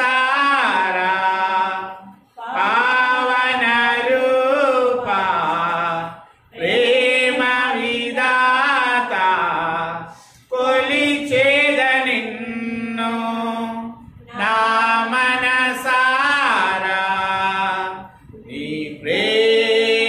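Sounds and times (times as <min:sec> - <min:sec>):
man singing a hymn: 0:00.0 - 0:20.0.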